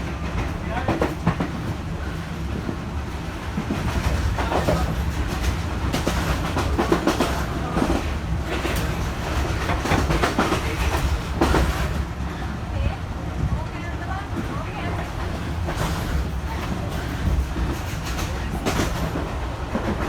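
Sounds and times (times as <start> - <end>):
passenger train rumbling on track: 0.0 - 20.0.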